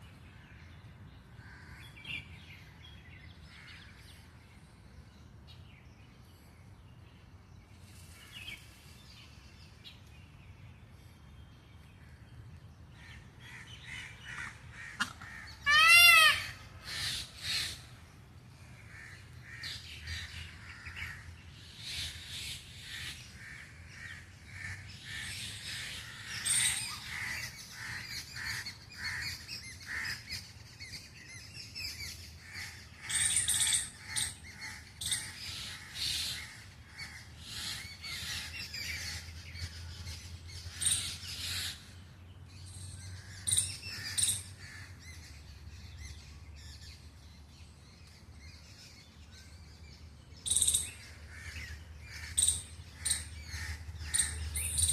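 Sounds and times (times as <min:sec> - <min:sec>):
birds calling and chirping: 0:00.0 - 0:54.9.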